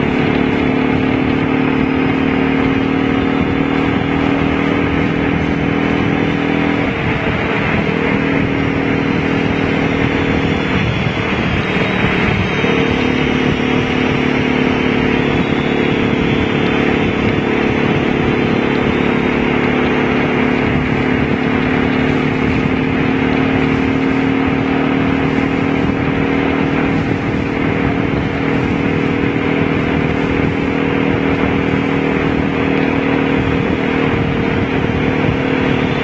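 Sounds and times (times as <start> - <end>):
motorcycle engine cruising: 0.0 - 36.0
wind rushing: 0.0 - 36.0.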